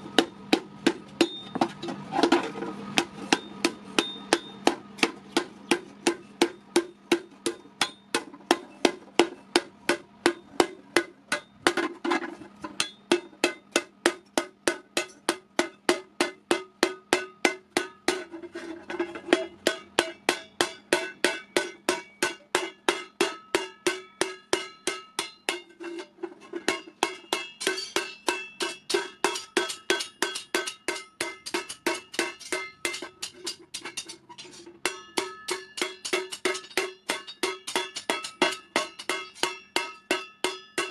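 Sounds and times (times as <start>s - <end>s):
hammer beating ringing iron plate: 0.0s - 12.0s, 12.6s - 40.9s.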